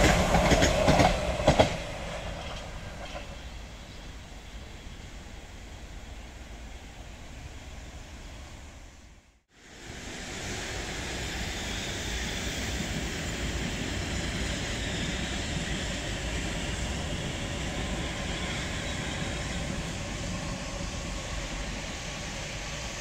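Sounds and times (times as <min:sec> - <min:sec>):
metro train wheels on rails: 0:00.0 - 0:23.0.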